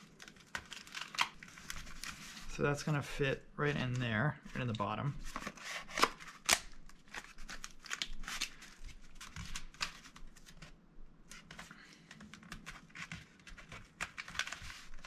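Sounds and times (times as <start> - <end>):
cardboard and tape crinkling: 0.0 - 3.0, 3.7 - 15.0.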